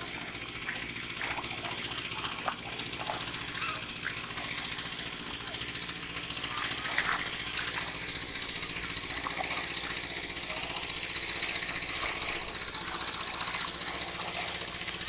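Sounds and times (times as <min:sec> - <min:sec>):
legs wading through water: 0:00.0 - 0:15.0
small engine running: 0:00.0 - 0:15.0.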